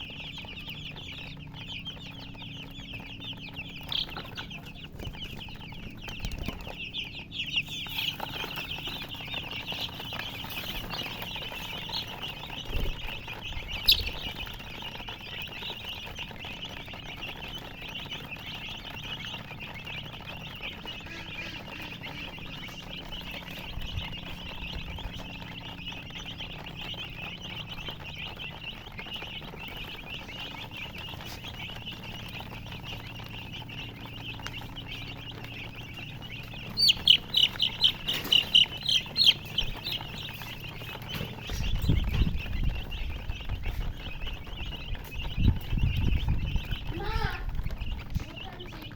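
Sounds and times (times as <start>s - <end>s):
steady low hum: 0.0s - 48.8s
baby chicks peeping: 0.0s - 48.9s.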